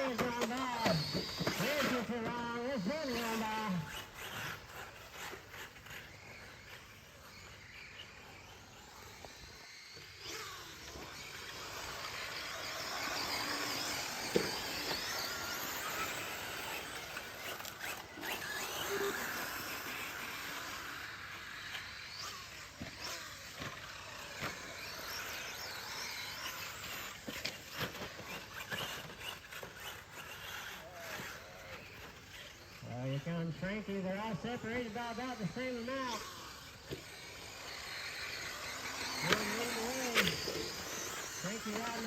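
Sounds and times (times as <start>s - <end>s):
rc truck motor whine: 0.0s - 42.0s.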